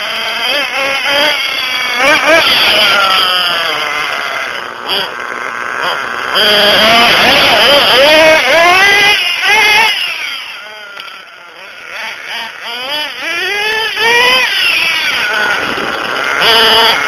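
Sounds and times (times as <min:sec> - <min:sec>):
nitro engine revving: 0:00.0 - 0:17.0.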